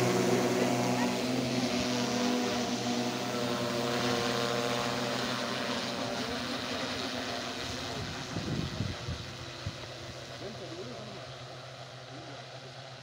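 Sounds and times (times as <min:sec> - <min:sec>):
drone propellers humming: 0:00.0 - 0:13.0.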